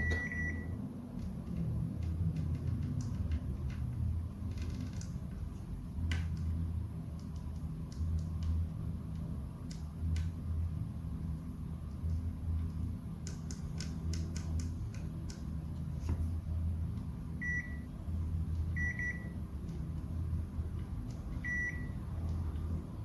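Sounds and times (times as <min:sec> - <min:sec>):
low pulsing hum: 0:00.0 - 0:23.0.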